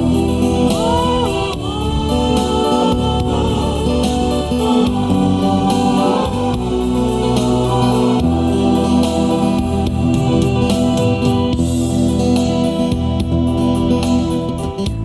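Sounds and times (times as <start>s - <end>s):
slow ballad with organ chords: 0.0s - 14.8s.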